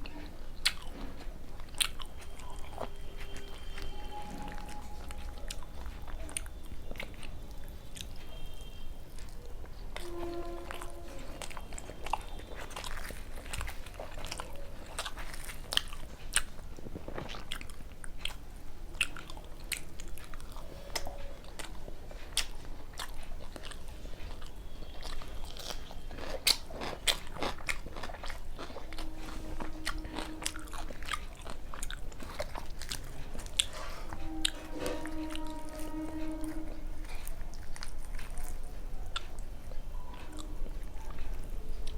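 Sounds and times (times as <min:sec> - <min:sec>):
crunching and wet chewing: 0:00.0 - 0:41.9.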